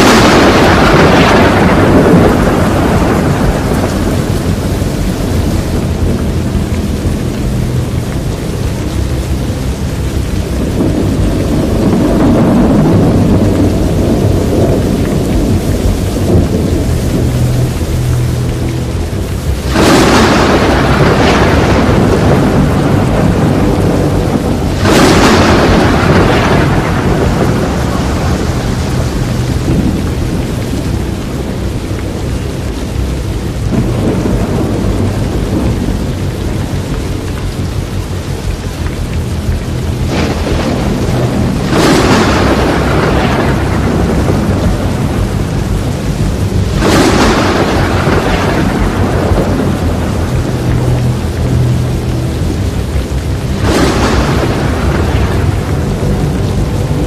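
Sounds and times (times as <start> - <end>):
heavy rushing storm rumble: 0.0 - 57.0
loud thunder-like surges: 0.0 - 57.0
rain: 0.0 - 57.0.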